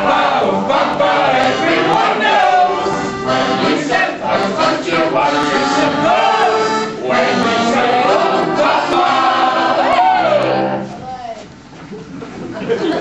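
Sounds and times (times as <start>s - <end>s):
group singing with accompaniment: 0.0s - 10.9s.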